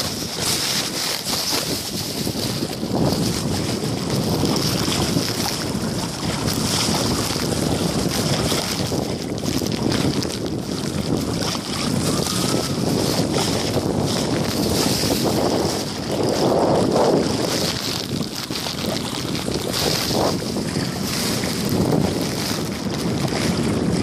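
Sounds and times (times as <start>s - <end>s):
water sloshing around wading legs: 0.0s - 24.0s
wind buffeting microphone: 0.0s - 24.0s.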